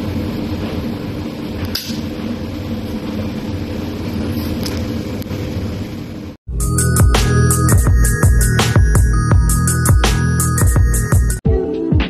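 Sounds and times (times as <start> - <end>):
machine hum with rushing noise: 0.0 - 11.4.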